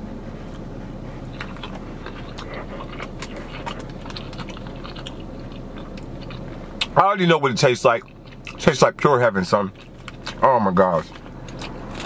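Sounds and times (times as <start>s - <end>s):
steady low hum: 0.0s - 12.0s
chewing salad crunching: 1.2s - 12.0s.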